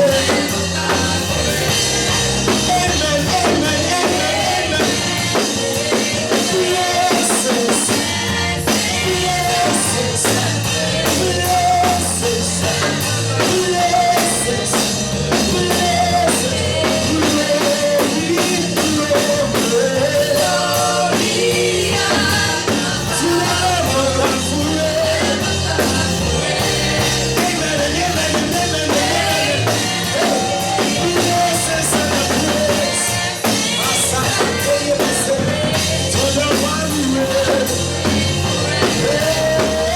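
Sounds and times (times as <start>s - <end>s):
gospel band with drum kit: 0.0s - 39.9s
people singing: 0.0s - 39.9s.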